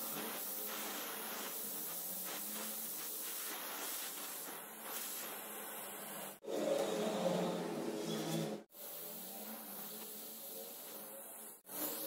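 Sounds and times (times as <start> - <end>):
gas torch flame hissing: 0.0 - 6.4, 8.7 - 12.0.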